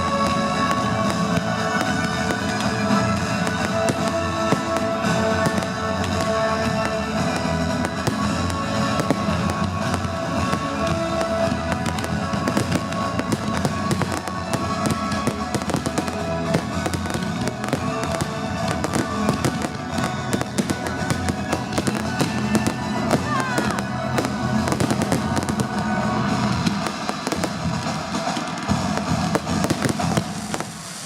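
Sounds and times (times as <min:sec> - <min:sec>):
fireworks banging and crackling: 0:00.0 - 0:31.0
loud music: 0:00.0 - 0:31.0.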